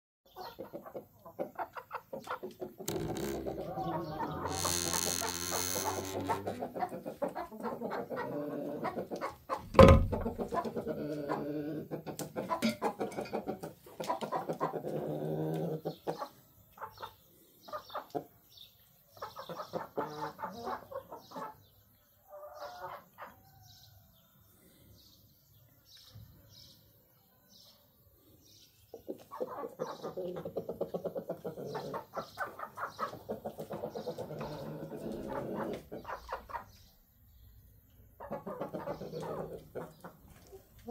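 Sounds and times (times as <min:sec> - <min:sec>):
chickens clucking and calling: 0:00.3 - 0:40.9.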